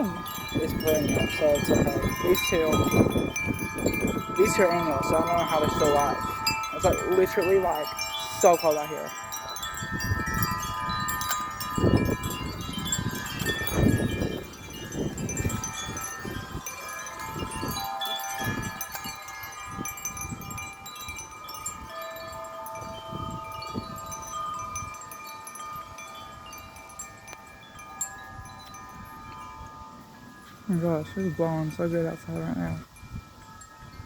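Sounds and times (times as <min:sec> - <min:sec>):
wind chimes ringing: 0:00.0 - 0:34.0
wind rumble on microphone: 0:00.0 - 0:34.0.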